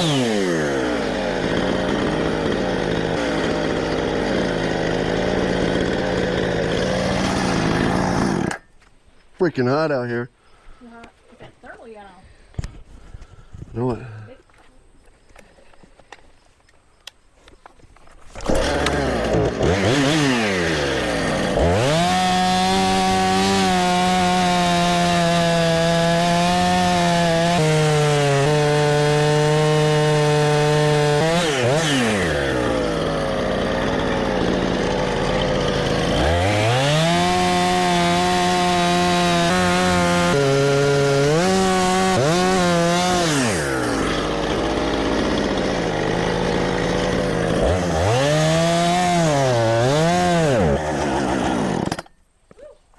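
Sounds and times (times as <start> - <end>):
chainsaw cutting a log: 0.0 - 8.7, 18.3 - 52.2.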